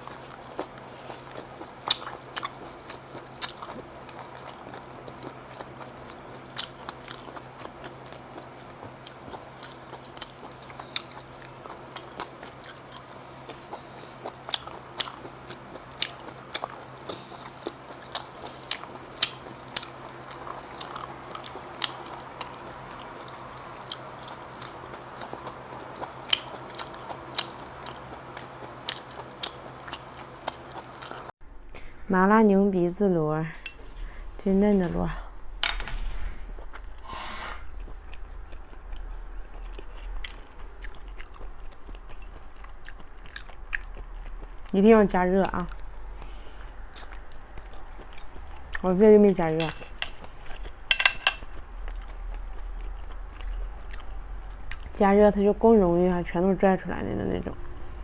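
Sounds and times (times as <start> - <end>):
chewing and biting shellfish: 0.0 - 31.3, 37.6 - 44.7, 45.6 - 48.9, 49.6 - 55.0
faint low hum: 0.0 - 58.0.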